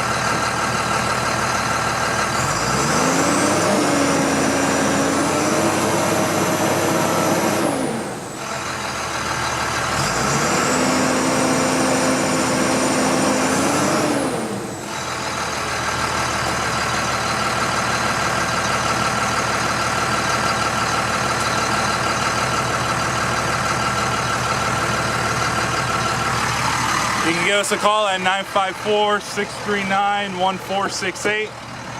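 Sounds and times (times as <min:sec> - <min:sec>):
diesel truck engine revving and idling: 0:00.0 - 0:31.9.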